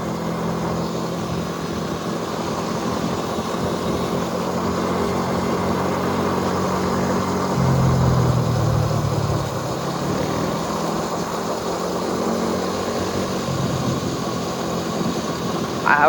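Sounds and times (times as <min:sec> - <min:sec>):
motorbike engine running: 0:01.1 - 0:15.8.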